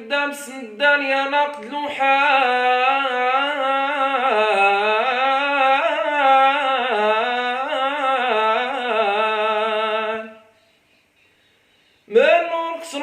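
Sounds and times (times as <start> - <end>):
man singing melismatic vocal line: 0.0 - 10.6, 12.1 - 13.0.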